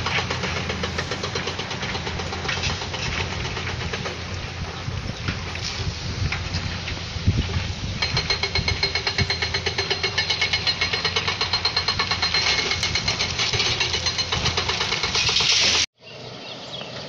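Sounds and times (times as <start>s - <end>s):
construction machine engine rumble: 0.0s - 17.0s.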